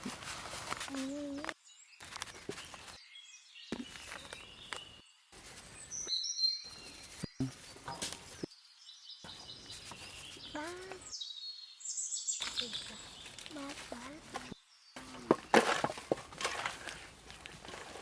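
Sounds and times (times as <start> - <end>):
birds chirping: 0.9 - 17.2.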